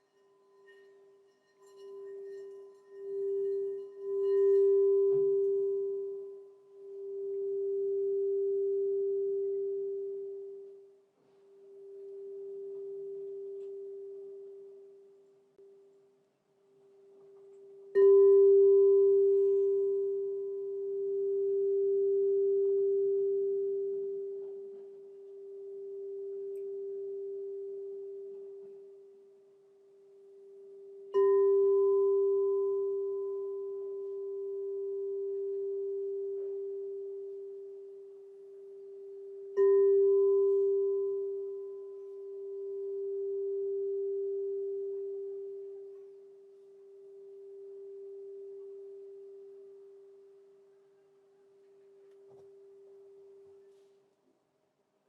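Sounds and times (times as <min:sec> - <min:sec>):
crystal singing bowl ringing: 0:00.0 - 0:11.0, 0:11.6 - 0:15.3, 0:17.4 - 0:53.7.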